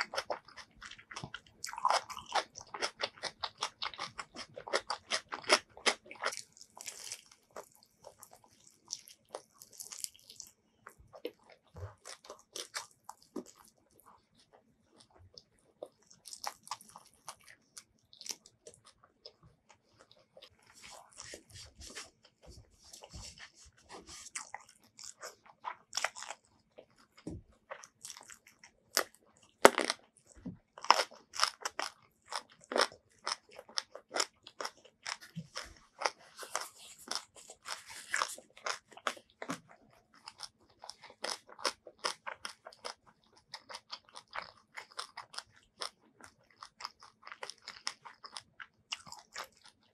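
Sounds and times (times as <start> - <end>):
chewing crunchy food: 0.0 - 49.9.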